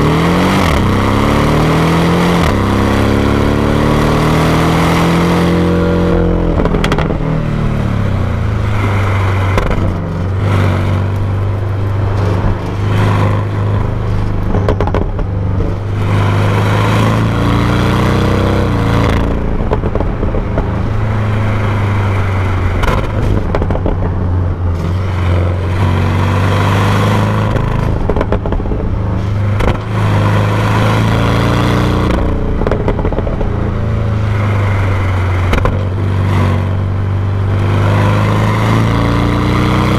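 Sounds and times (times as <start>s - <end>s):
car engine while driving: 0.0s - 39.9s.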